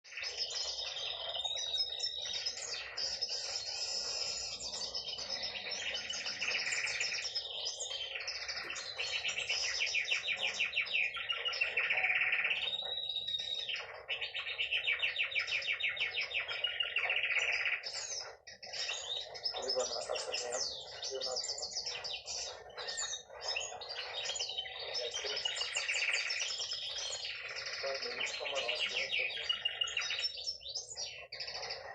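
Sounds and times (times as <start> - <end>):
canary singing trills: 0.0 - 31.9.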